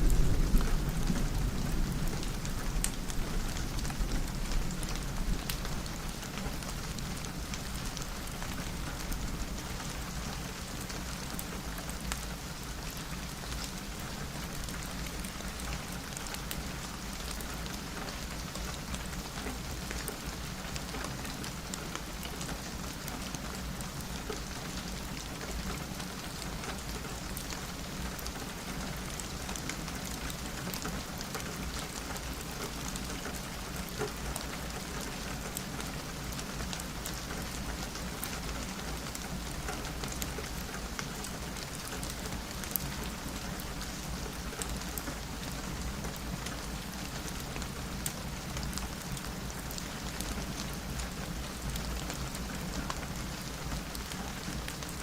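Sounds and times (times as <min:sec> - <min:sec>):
rain on a window: 0:00.0 - 0:55.0.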